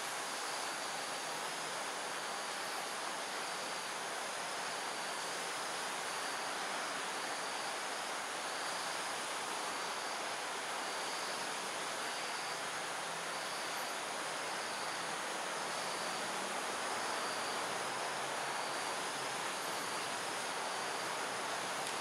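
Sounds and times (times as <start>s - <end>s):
constant rushing hiss: 0.0s - 22.0s
high insect drone: 0.0s - 22.0s.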